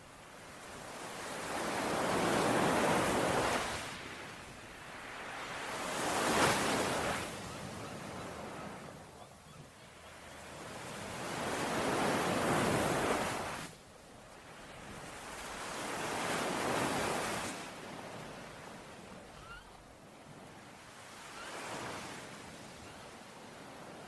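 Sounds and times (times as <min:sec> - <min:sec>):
soft hiss of surf: 0:00.0 - 0:09.0, 0:09.8 - 0:24.0
ocean waves breaking on shore: 0:00.0 - 0:24.0.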